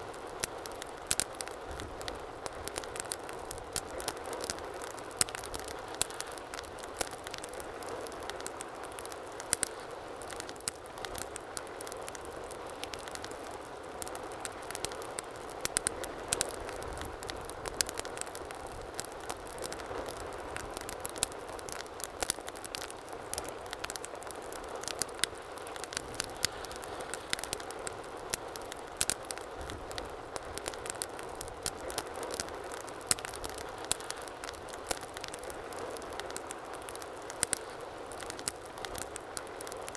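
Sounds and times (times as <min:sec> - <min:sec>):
burning wood crackling and popping: 0:00.0 - 0:39.9.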